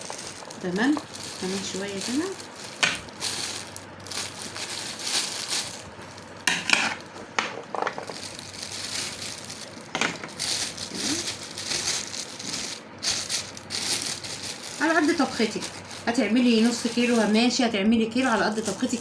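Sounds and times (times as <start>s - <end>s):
okra pods rustling: 0.0s - 19.0s
plastic bag crinkling: 0.0s - 19.0s.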